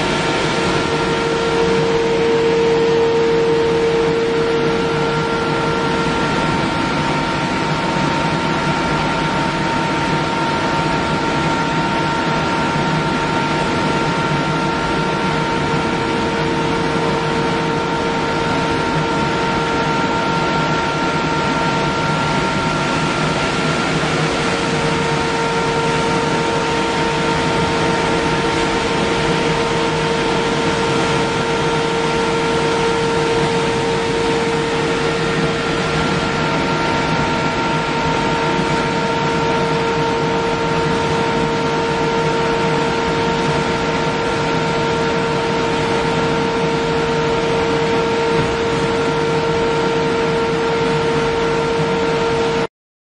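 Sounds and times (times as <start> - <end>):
machine drone with whine: 0.0 - 52.7.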